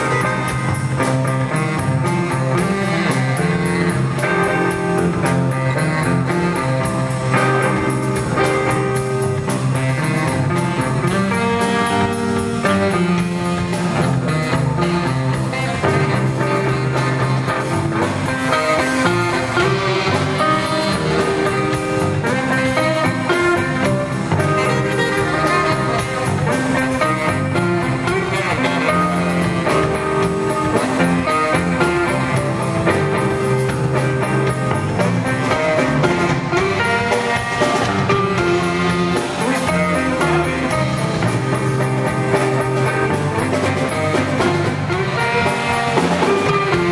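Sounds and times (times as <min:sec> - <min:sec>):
live band playing blues: 0:00.0 - 0:46.9.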